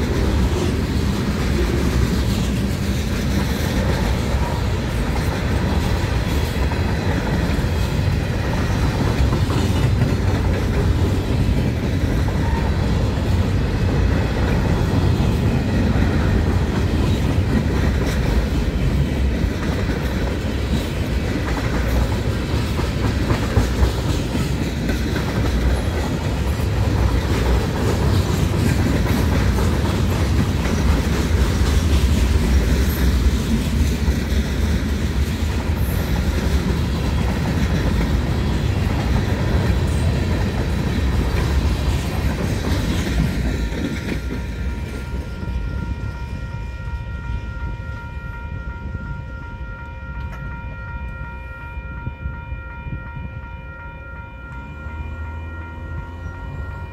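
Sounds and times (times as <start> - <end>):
train wheels clickety-clack: 0.0 - 46.4
crossing warning bell ringing: 0.0 - 56.9.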